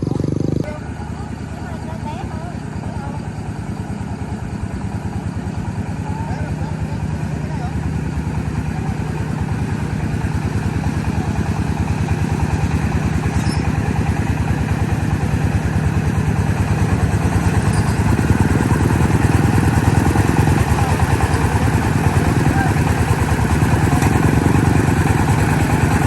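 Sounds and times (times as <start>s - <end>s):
diesel engine chugging: 0.0s - 26.0s.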